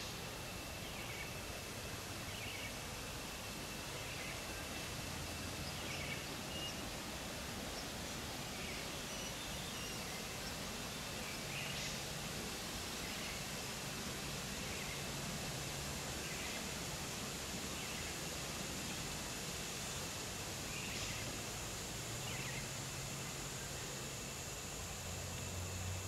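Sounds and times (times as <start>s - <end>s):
high insect drone: 0.0s - 26.0s
steady background hiss: 0.0s - 26.0s.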